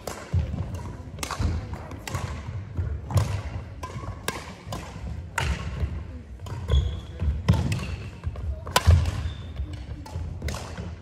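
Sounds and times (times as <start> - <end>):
rackets striking shuttlecock: 0.0 - 11.0.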